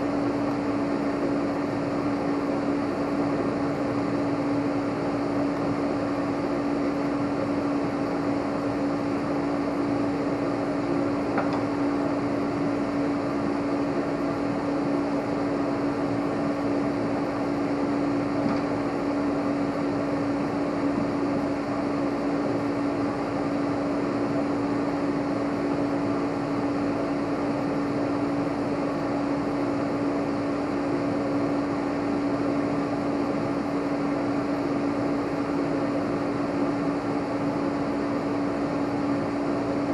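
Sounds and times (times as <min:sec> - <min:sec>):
machine hum with whirring: 0:00.0 - 0:39.9.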